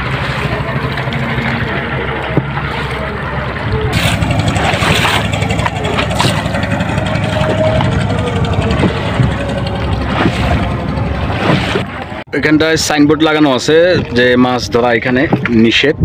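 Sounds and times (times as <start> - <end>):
engine chugging: 0.0 - 15.8.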